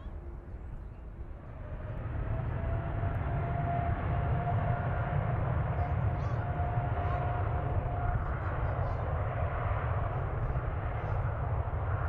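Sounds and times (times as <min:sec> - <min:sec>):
faint high engine whine: 0:00.0 - 0:12.0.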